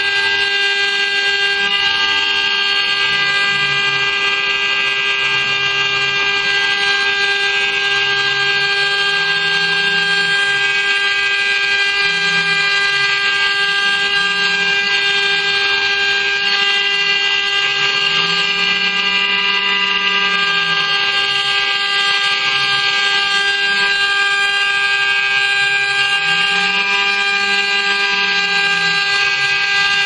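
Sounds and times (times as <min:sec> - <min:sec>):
router spindle whine: 0:00.0 - 0:30.0.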